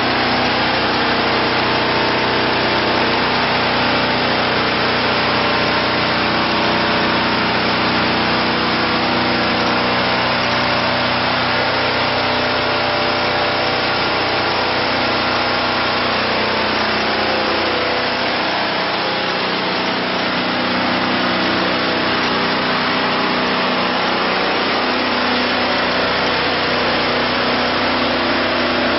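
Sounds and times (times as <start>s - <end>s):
band saw cutting log: 0.0s - 28.9s
sawmill diesel engine running: 0.0s - 28.9s.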